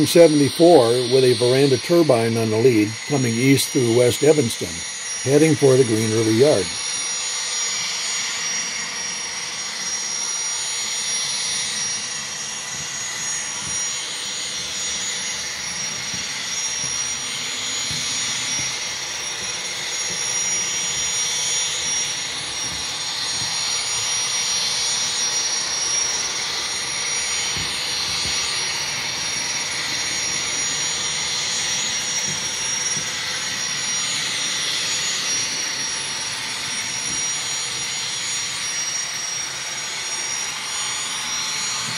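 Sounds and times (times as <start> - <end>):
gas-turbine locomotive rush and whine: 0.0 - 41.9.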